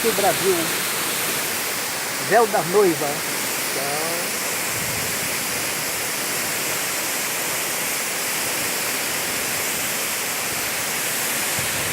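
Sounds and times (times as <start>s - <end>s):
waterfall crashing: 0.0s - 11.9s.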